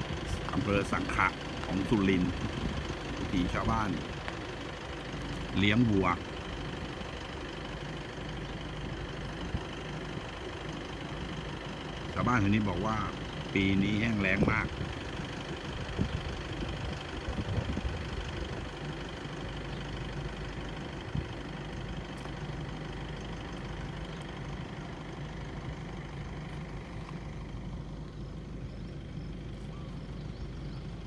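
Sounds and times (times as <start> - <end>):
road noise: 0.0 - 31.0
vehicle engine running: 0.0 - 31.0.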